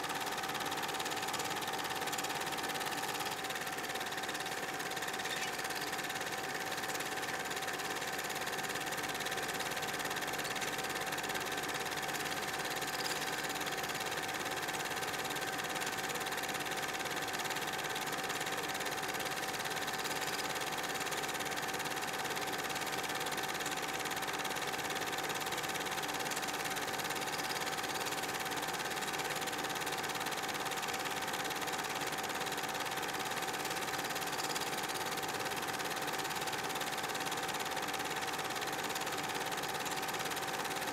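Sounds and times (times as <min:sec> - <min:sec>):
film projector motor hum: 0:00.0 - 0:40.9.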